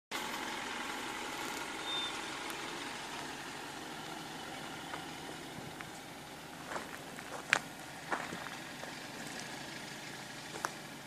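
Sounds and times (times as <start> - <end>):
car engine at low speed: 0.1 - 11.0.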